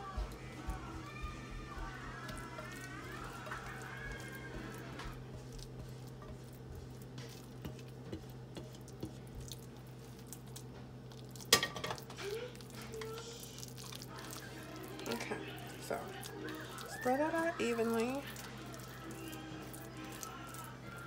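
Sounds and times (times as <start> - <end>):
spatula scraping wet filling: 0.0 - 21.0.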